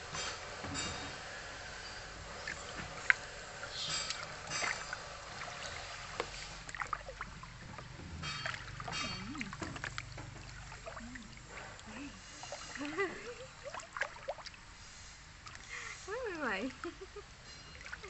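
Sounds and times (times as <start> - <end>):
water lapping: 1.4 - 18.0
water splashing in a plastic tub: 2.2 - 18.0.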